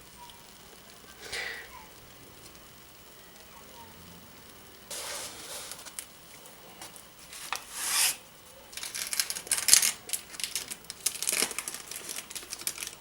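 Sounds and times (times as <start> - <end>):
crackles: 0.0 - 13.0.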